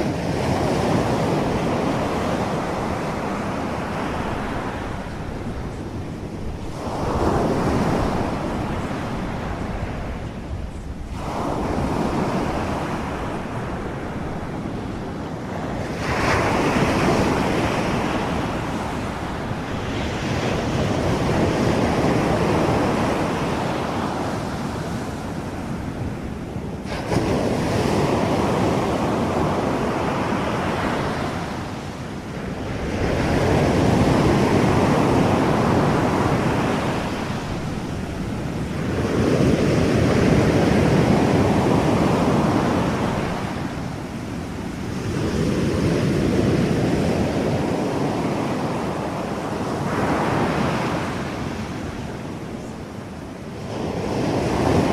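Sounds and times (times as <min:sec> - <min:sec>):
ocean waves rushing: 0:00.0 - 0:54.9.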